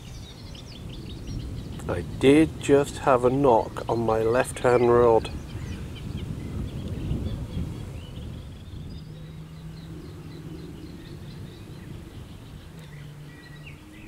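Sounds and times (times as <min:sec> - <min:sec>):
low rumble: 0:00.0 - 0:14.0
small birds chirping: 0:00.0 - 0:14.0.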